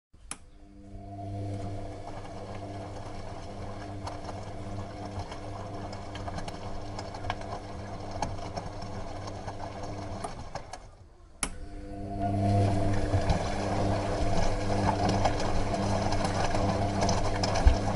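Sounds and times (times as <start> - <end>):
washing machine running: 0.2 - 17.9.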